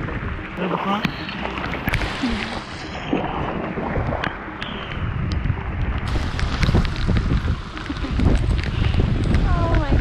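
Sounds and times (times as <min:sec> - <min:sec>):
wind buffeting microphone: 0:01.8 - 0:10.0.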